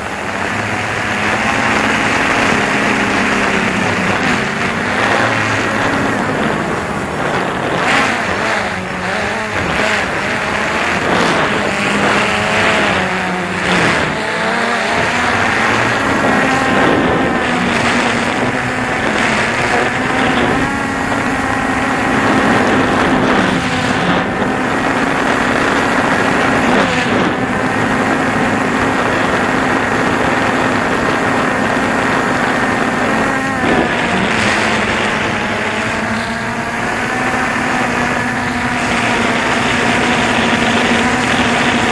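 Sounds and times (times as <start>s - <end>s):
drone propellers buzzing: 0.0s - 41.9s
wind noise: 0.0s - 41.9s.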